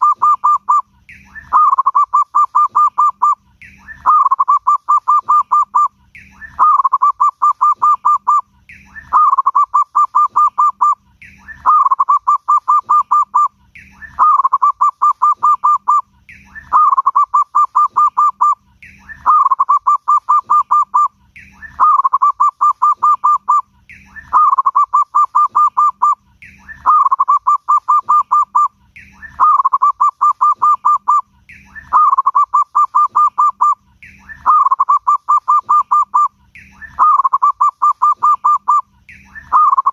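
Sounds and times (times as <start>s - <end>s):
zebra dove cooing: 0.0s - 39.9s.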